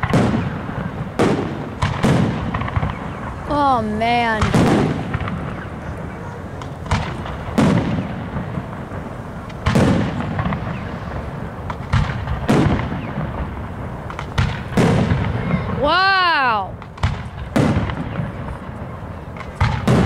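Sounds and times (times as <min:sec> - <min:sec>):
fireworks booming with echo: 0:00.0 - 0:20.0.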